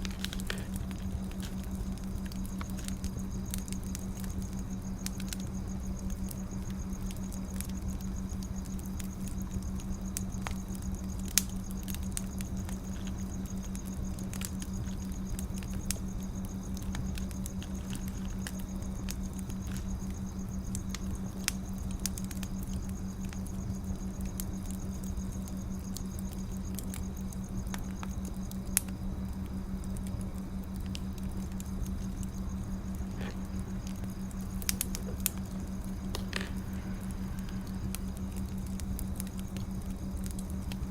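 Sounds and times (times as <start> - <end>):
firewood crackling and popping: 0.0 - 40.9
steady low hum: 0.0 - 40.9.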